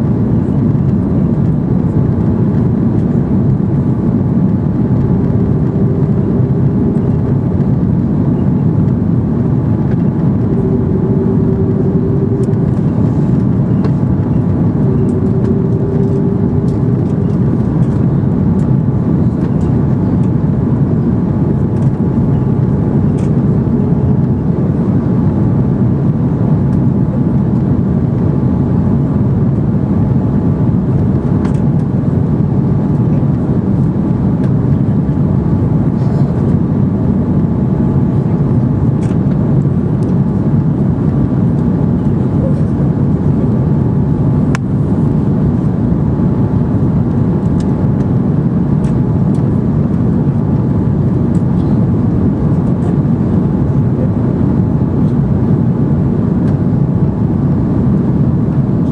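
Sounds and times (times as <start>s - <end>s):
airplane cabin rumble: 0.0s - 58.9s
faint hum: 0.0s - 58.9s.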